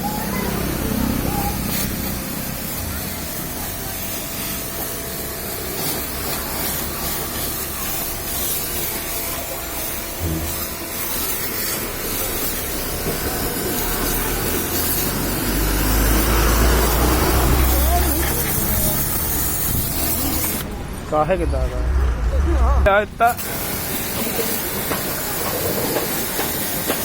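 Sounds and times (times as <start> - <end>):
water spraying hiss: 0.0 - 20.7, 23.2 - 27.0.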